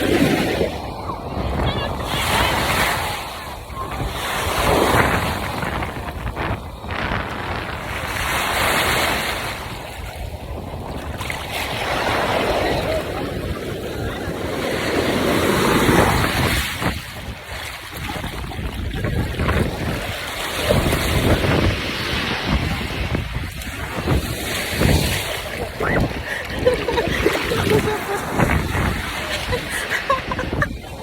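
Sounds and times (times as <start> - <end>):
surf washing onto beach: 0.0 - 31.0
wind rumbling on microphone: 0.0 - 31.0.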